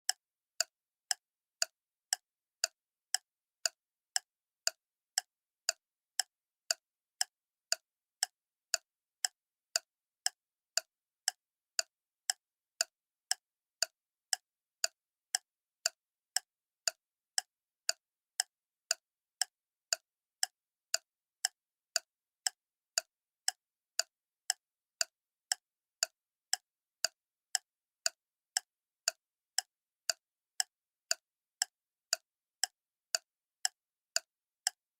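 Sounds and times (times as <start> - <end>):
clock ticking: 0.1 - 34.8.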